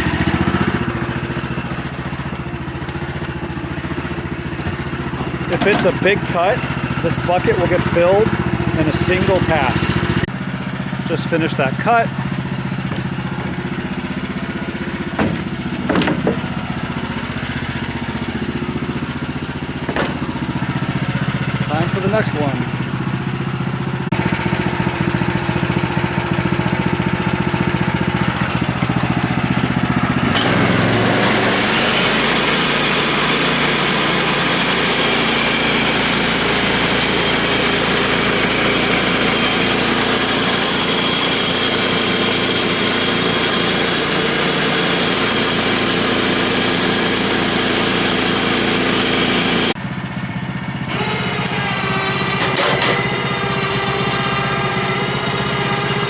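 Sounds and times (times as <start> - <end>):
saw blade cutting log: 0.0 - 10.3, 11.0 - 23.0, 30.2 - 49.8, 50.9 - 56.0
petrol engine running: 0.0 - 56.0.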